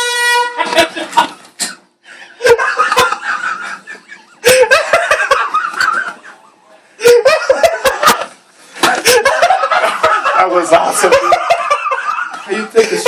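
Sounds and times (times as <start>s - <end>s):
loud laughter: 0.6s - 1.5s, 2.4s - 13.0s.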